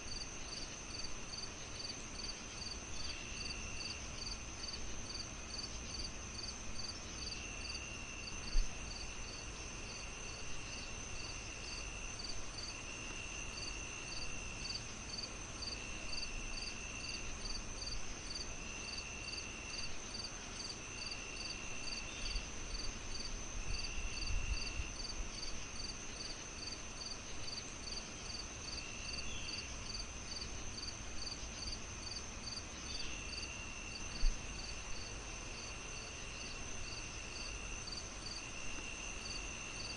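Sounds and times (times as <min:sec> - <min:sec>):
crickets chirping: 0:00.0 - 0:39.9
high insect hum: 0:00.0 - 0:39.9.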